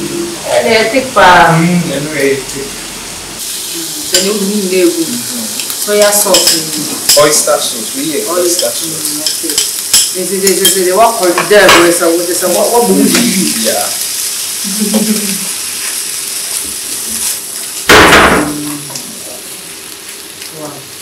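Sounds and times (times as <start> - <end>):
vegetables sizzling in a wok: 0.0 - 21.0.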